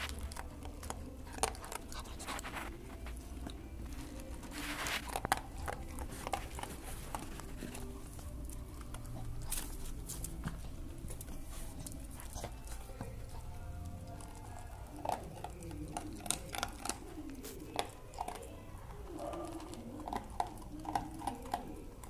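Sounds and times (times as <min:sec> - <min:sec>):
dog crunching dry kibble: 0:00.0 - 0:22.0.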